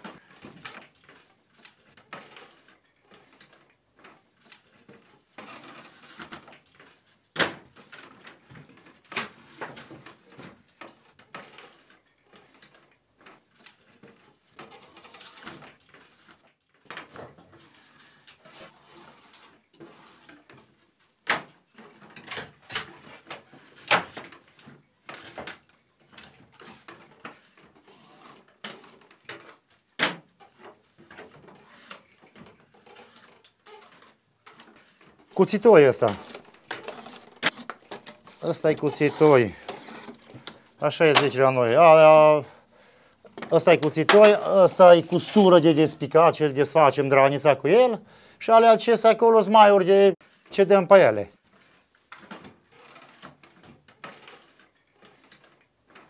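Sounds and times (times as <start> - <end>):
draw knife scraping wood: 0.0 - 7.0, 8.9 - 41.4, 43.3 - 46.0, 51.6 - 56.0.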